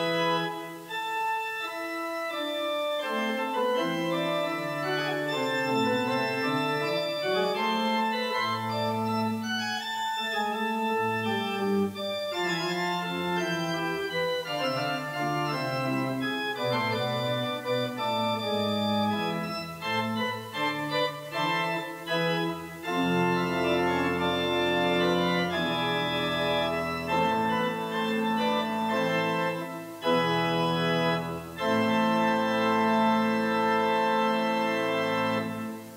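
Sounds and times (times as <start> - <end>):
pipe organ playing: 0.0 - 35.9.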